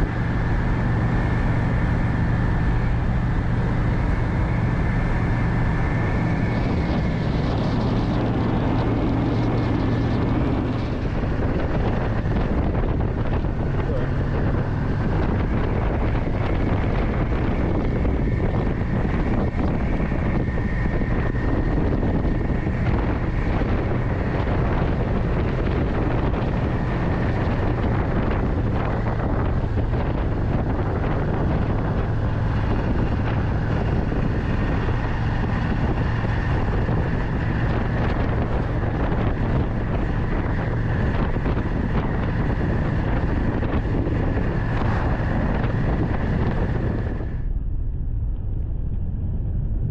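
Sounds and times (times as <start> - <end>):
motorcycle engine cruising: 0.0 - 47.6
wind rushing over microphone: 0.0 - 49.9.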